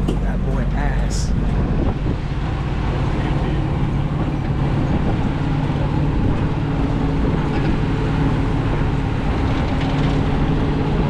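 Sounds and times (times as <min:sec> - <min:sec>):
buggy engine droning: 0:00.0 - 0:11.0.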